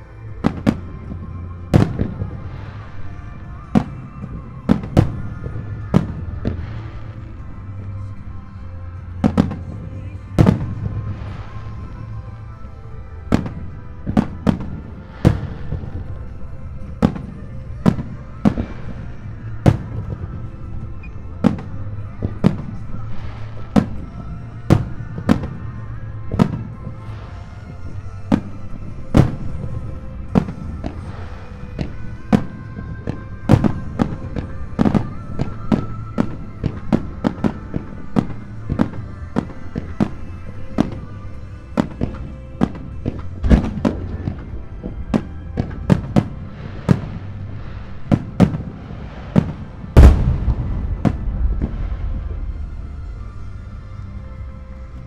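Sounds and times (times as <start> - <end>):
background music: 0.0 - 55.0
fireworks bursting: 0.0 - 55.0.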